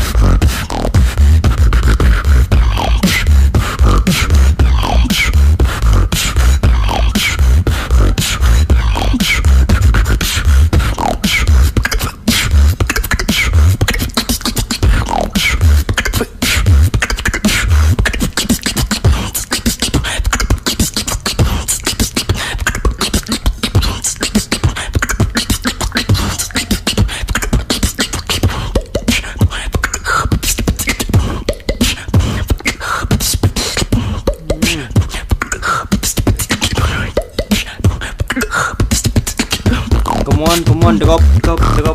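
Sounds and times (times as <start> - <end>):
woman beatboxing: 0.0 - 41.9.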